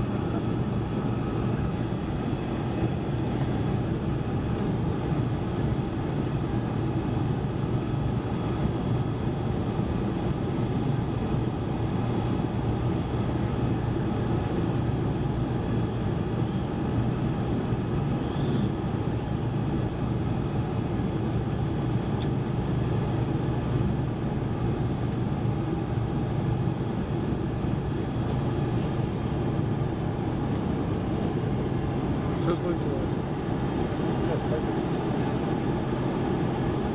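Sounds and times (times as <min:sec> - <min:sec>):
jet engines humming in cabin: 0:00.0 - 0:36.9.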